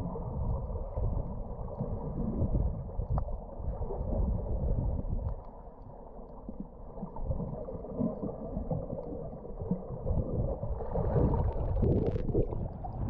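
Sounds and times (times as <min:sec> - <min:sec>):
underwater crackling and bubbling: 0:00.0 - 0:13.0
underwater rumble of rushing water: 0:00.0 - 0:13.0.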